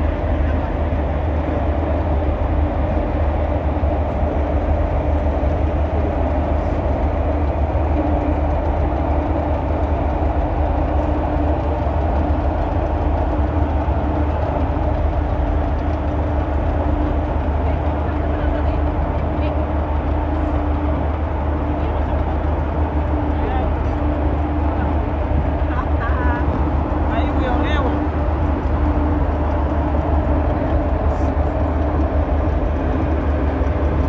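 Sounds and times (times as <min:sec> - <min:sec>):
ferry engines droning: 0:00.0 - 0:34.0.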